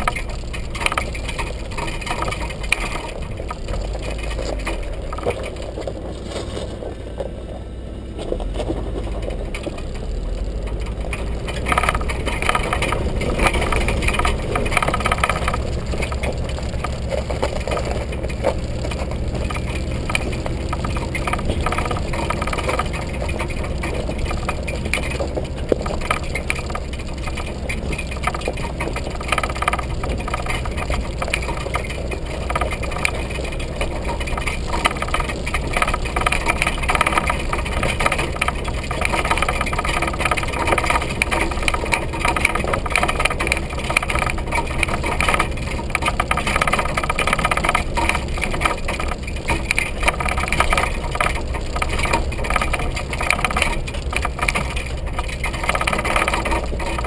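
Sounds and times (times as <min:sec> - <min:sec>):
roof basket rattling and knocking: 0:00.0 - 0:07.4, 0:08.2 - 0:57.0
engine and tyre rumble: 0:00.0 - 0:57.0.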